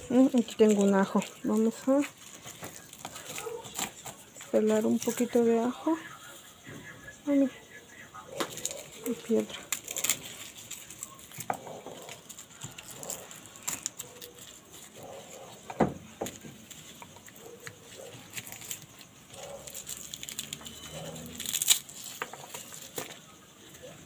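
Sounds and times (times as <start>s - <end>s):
garlic skins crackling: 0.0s - 24.0s.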